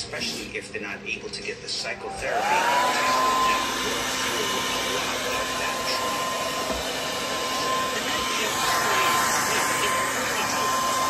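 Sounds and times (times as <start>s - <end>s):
hair dryer running: 1.9s - 11.0s.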